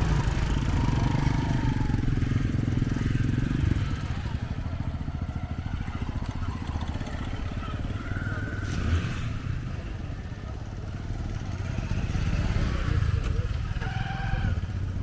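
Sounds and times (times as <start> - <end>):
motorcycles riding past: 0.0 - 15.0.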